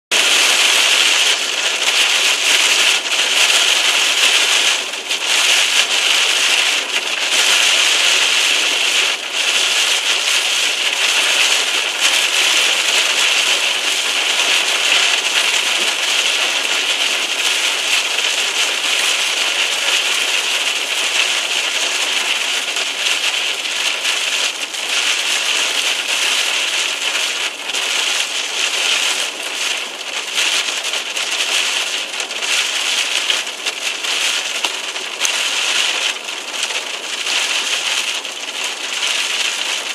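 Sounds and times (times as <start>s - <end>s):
heavy rain on car roof: 0.1s - 39.9s.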